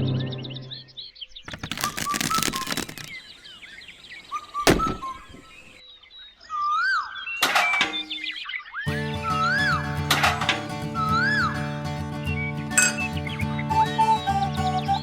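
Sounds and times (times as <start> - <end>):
small birds chirping: 0.2 - 9.8, 12.2 - 15.0.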